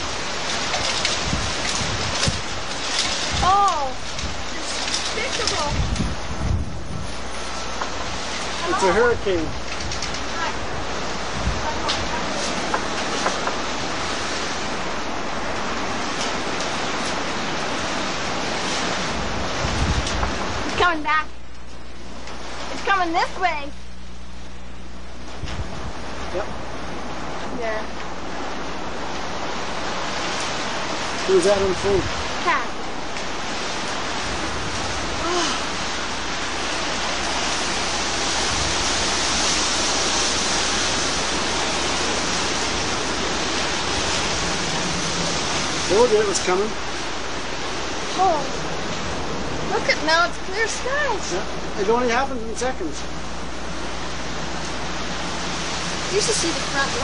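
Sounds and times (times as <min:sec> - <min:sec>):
roar of violent wind: 0:00.0 - 0:21.2, 0:25.1 - 0:51.9, 0:53.0 - 0:57.0
heavy rain: 0:00.0 - 0:57.0.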